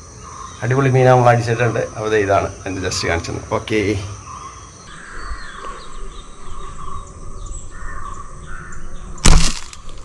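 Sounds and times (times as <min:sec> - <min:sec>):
birds chirping: 0:00.0 - 0:10.0
insects: 0:00.0 - 0:10.0.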